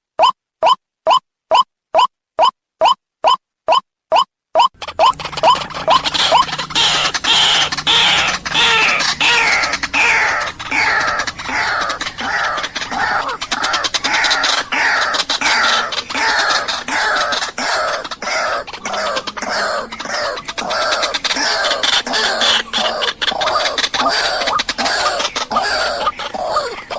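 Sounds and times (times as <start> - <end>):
waterhen croaking calls: 0.2 - 26.9.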